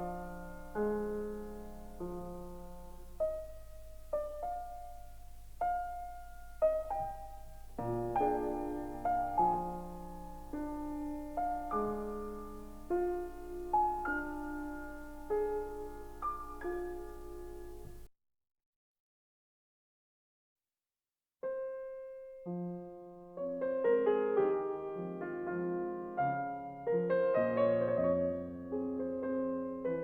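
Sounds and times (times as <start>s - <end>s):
slow solo piano music: 0.0s - 18.1s, 21.4s - 30.0s.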